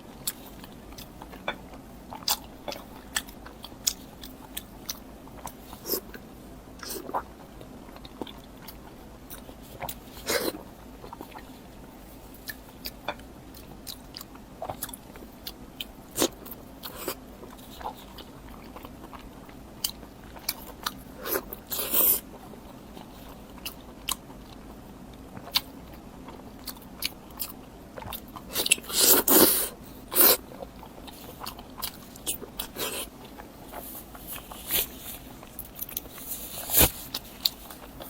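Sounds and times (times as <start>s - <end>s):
person chewing crunchy food: 0.0s - 38.0s.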